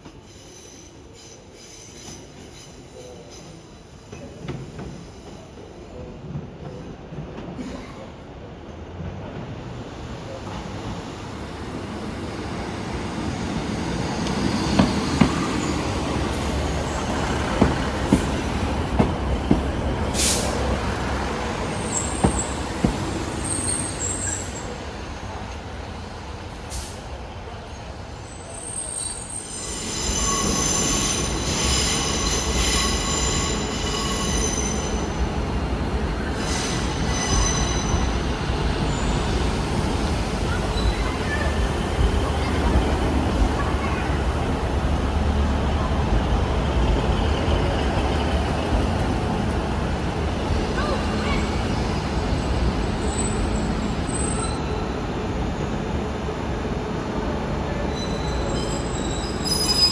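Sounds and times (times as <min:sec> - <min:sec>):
train passing on rails: 0:00.0 - 0:59.9.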